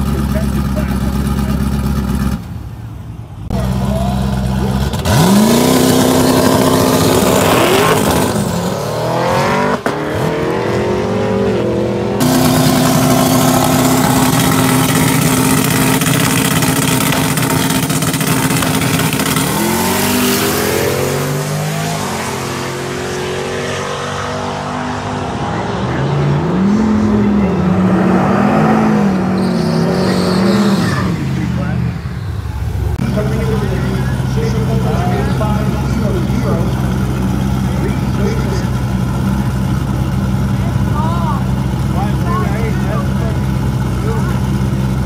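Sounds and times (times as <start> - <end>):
car launching through gears: 3.5 - 41.1
race car engine revving: 3.5 - 45.0.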